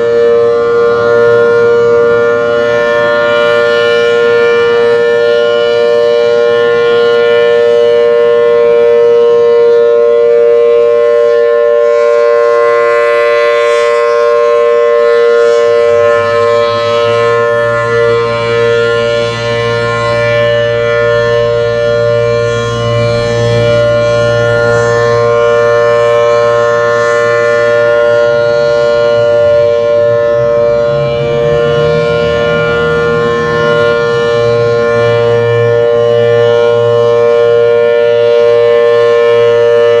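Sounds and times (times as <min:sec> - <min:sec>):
warning siren steady tone: 0:00.0 - 0:40.0.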